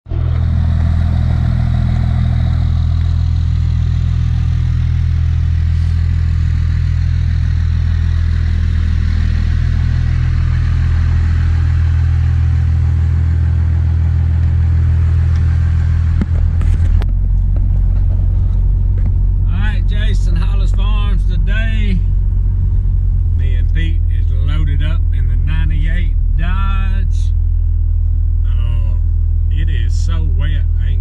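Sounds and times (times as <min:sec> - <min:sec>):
engine running steadily: 0:00.1 - 0:31.0.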